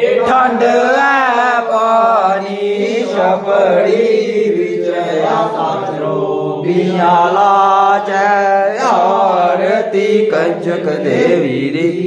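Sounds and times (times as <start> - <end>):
person singing a hymn: 0.0 - 12.0.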